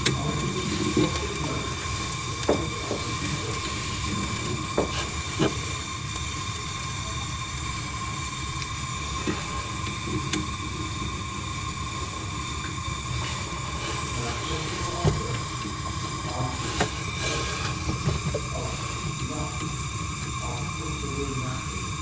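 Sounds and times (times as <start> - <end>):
blowtorch flame hissing: 0.0 - 22.0.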